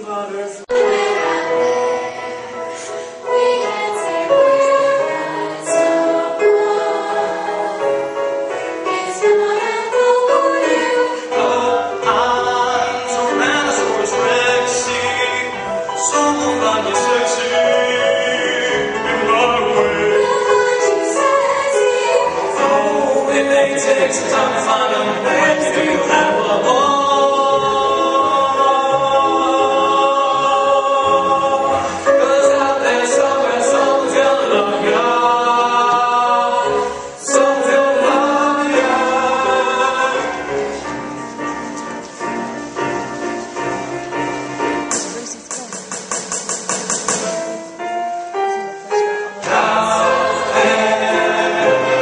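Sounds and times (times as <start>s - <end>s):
chorus singing: 0.0s - 45.2s, 47.1s - 52.0s
instrumental backing: 0.7s - 52.0s.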